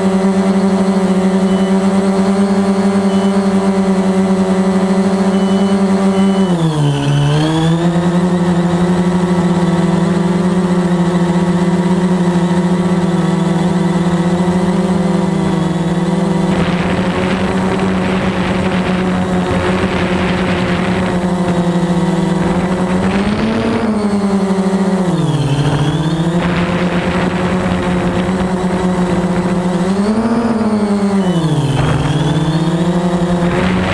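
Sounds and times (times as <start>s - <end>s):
quadcopter drone humming: 0.0s - 33.9s.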